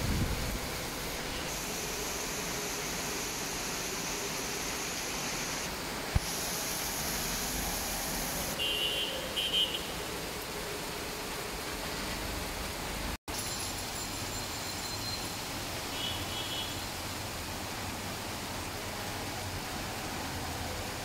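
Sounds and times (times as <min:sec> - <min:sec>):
heavy rain hissing: 0:00.0 - 0:13.2, 0:15.2 - 0:21.0.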